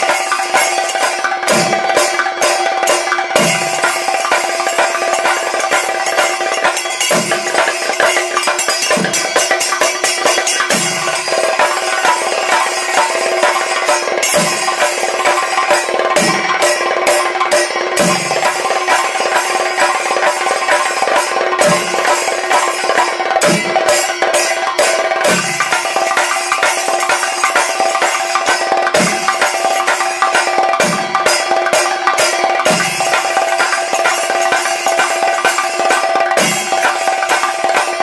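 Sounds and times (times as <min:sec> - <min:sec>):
drums played with sticks: 0:00.0 - 0:38.0.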